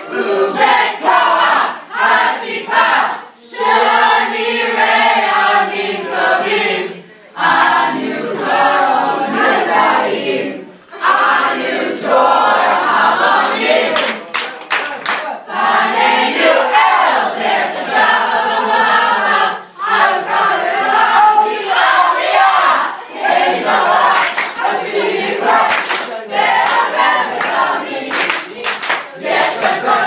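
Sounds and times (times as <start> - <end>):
group singing together: 0.0 - 14.4, 15.3 - 30.0.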